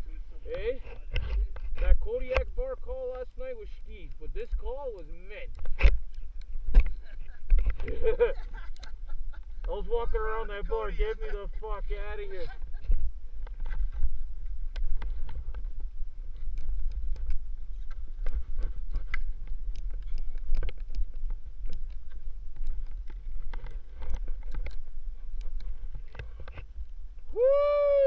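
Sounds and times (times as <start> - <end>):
wind rumble on microphone: 3.4 - 28.0.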